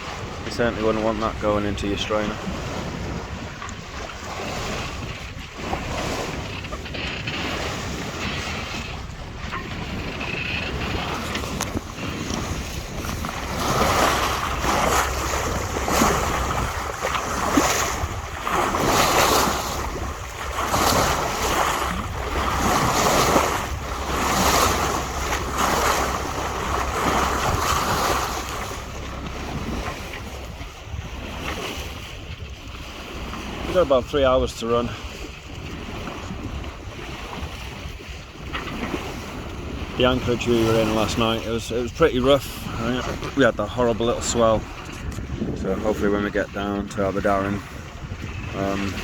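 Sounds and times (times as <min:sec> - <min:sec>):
water rushing past hull: 0:00.0 - 0:49.0
wind buffeting microphone: 0:00.0 - 0:49.0.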